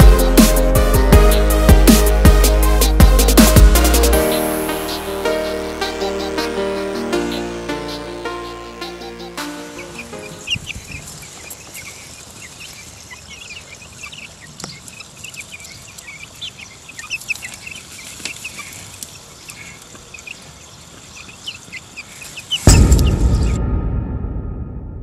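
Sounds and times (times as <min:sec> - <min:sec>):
chicks peeping: 0:00.0 - 0:22.7.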